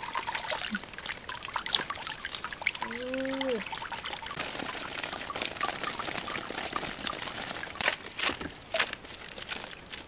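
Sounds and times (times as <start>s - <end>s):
crackling drips: 0.0s - 10.0s
water trickling and splashing: 0.0s - 10.0s.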